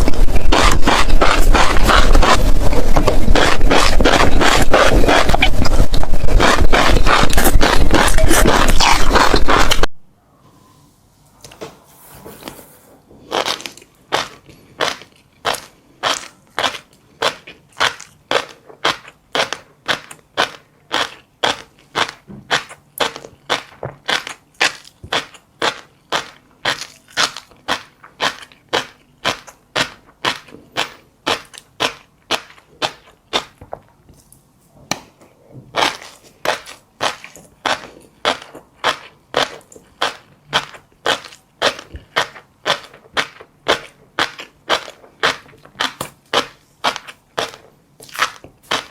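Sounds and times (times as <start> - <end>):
crunching of seeds being chewed: 0.0 - 9.9, 12.4 - 33.9, 35.8 - 48.9.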